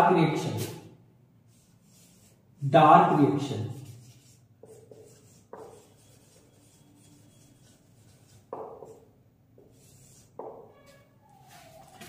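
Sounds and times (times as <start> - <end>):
marker pen writing on whiteboard: 1.5 - 2.4, 3.0 - 12.0.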